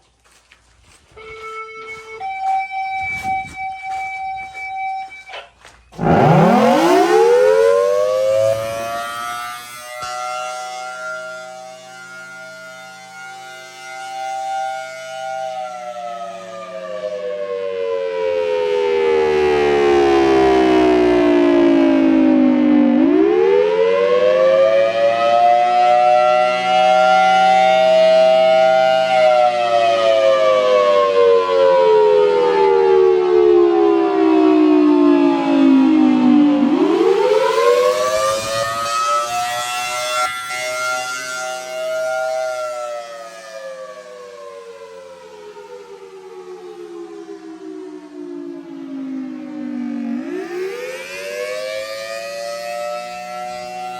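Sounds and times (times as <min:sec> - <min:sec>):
outdoor warning siren wailing: 0:00.2 - 0:53.9.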